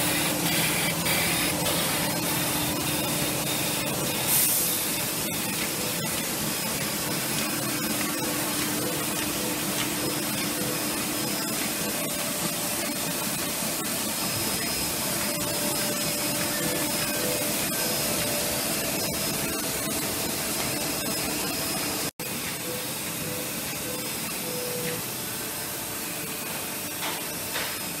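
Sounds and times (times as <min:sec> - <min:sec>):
printing press running: 0:00.0 - 0:28.0.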